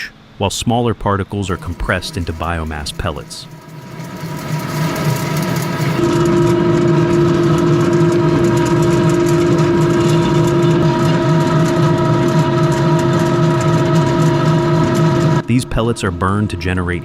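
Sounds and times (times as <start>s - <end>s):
steady whining tones: 1.1s - 17.0s
heavy machinery droning: 1.4s - 17.0s.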